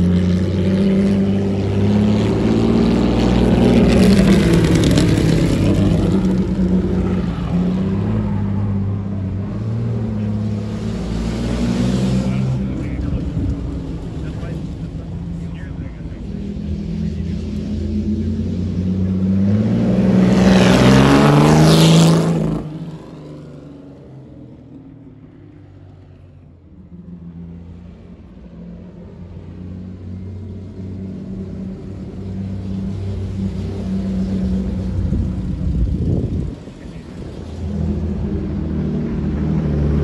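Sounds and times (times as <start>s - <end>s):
car engine accelerating past: 0.0s - 40.0s.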